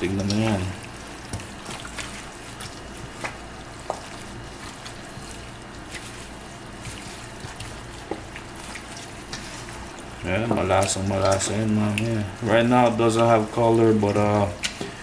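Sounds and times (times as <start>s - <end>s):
wet squelches of chicken mixing: 0.0s - 15.0s.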